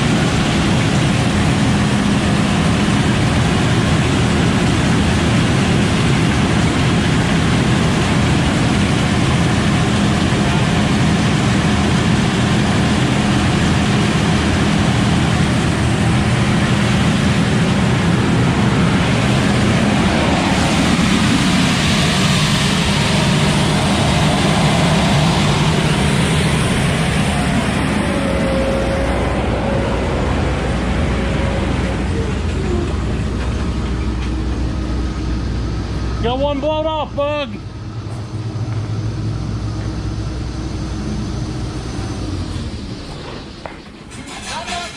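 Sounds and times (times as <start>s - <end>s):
rushing air: 0.0s - 36.4s, 37.2s - 44.8s
combine harvester engine hum: 0.0s - 44.9s.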